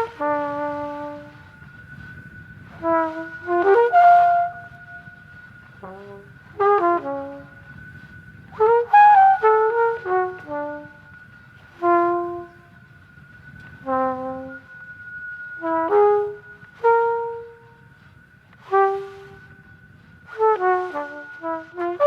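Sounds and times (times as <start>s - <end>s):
steady high tone: 0.0s - 22.0s.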